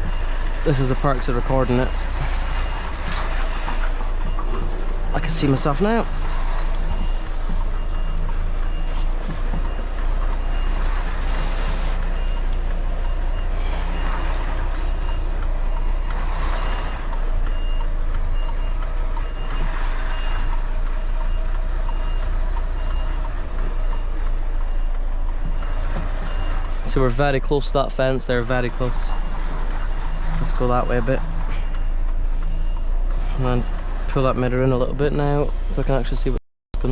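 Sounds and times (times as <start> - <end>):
truck reversing alarm beeping: 0.0 - 36.1
diesel engine running: 0.0 - 36.9.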